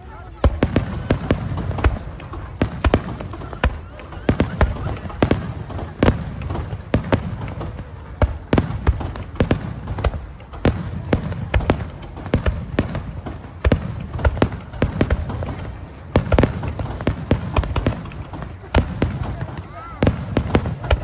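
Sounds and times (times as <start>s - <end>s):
crowd voices: 0.0s - 21.0s
fireworks banging: 0.0s - 21.0s.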